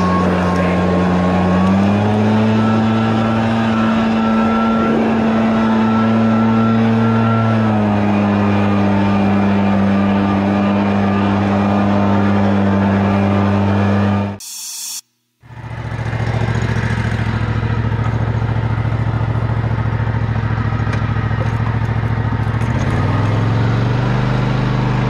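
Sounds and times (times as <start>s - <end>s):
leaf blower engine running: 0.0s - 25.0s.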